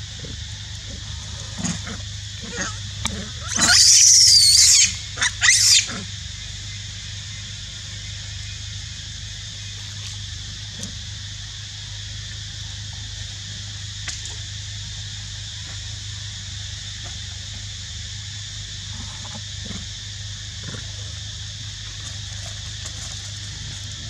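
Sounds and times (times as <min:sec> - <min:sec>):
high hiss-like drone: 0:00.0 - 0:24.0.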